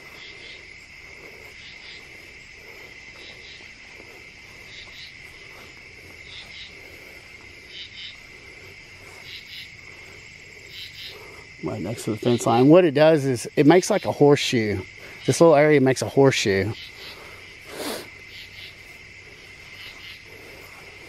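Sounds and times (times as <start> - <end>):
crickets trilling: 0.0 - 21.0
high pulsed insect chirp: 0.0 - 21.0.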